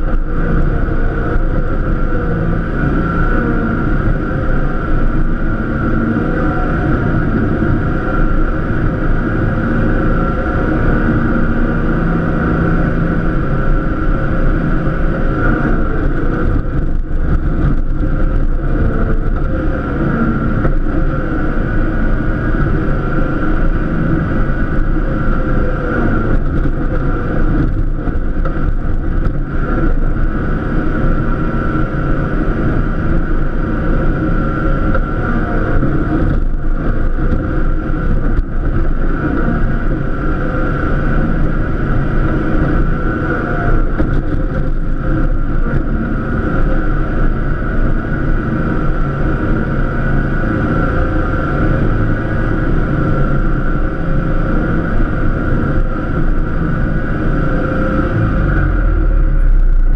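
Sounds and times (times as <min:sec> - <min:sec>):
high whine: 0:00.0 - 0:59.9
lawn tractor engine rumbling: 0:00.0 - 0:59.9.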